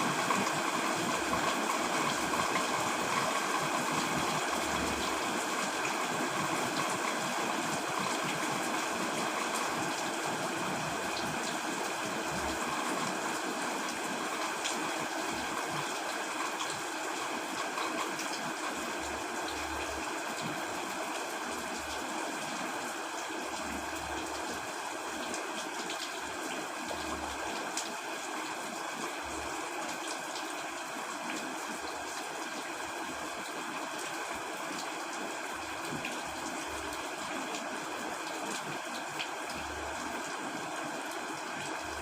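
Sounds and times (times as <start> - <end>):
heavy rain on a tent: 0.0 - 42.0.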